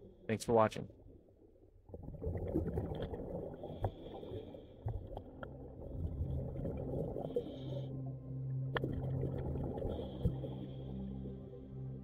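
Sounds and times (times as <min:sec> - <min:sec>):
low underwater rumble: 0:00.9 - 0:12.0.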